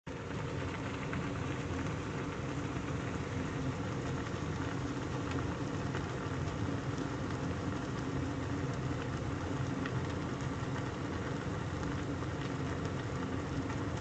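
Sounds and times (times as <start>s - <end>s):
water boiling in a pot: 0.1s - 14.0s.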